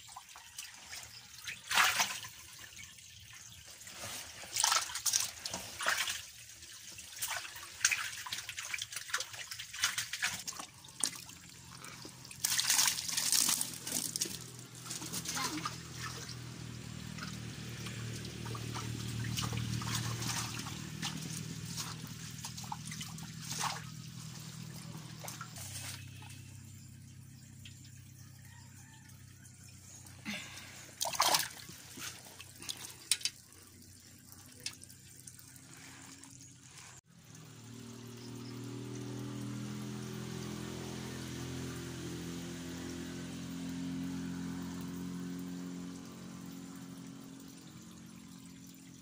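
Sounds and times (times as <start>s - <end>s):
water trickling and splashing: 0.0s - 49.0s.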